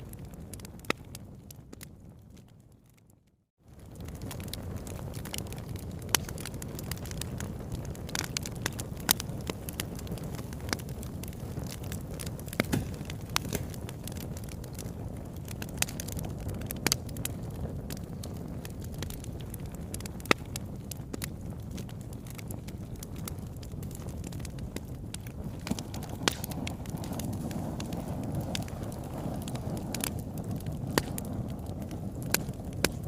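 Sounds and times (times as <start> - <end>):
low rush of flames: 0.0 - 33.0
wood fire crackling and popping: 0.0 - 33.0.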